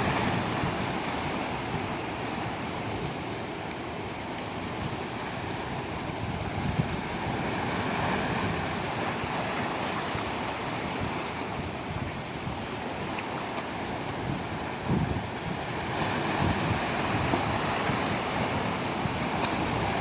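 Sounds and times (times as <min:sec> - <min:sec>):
ocean waves on shore: 0:00.0 - 0:20.0
wind buffeting microphone: 0:00.0 - 0:20.0.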